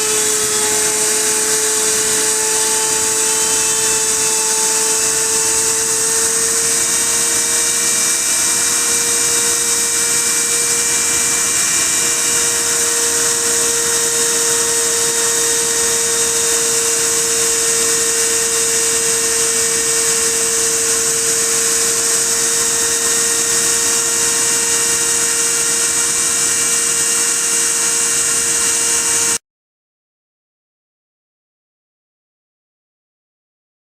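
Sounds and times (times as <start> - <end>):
spindle motor whining: 0.0 - 29.4.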